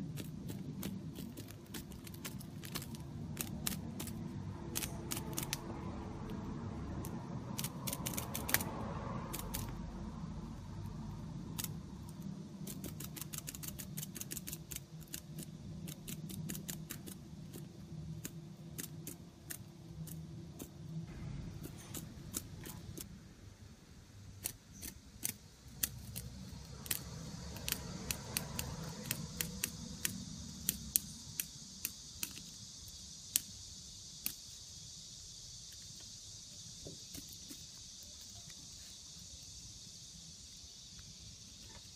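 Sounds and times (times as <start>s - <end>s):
insect mandibles crunching shell: 0.0s - 41.9s
steady high hiss: 0.0s - 41.9s.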